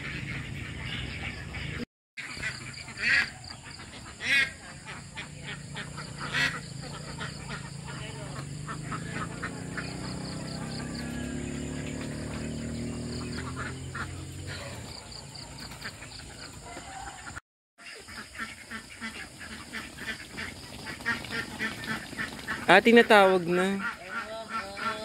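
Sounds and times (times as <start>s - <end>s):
ducks quacking: 0.0s - 25.0s.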